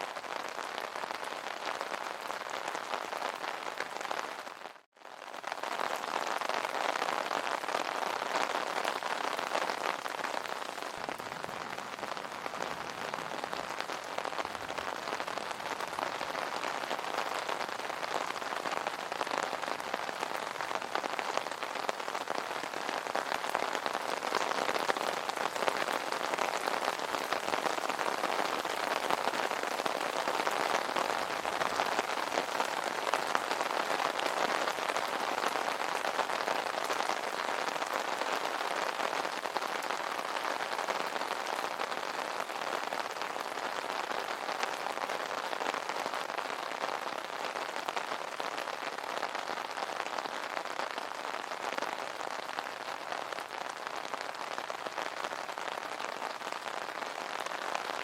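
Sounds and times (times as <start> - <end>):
rain pattering on umbrella: 0.0 - 58.0.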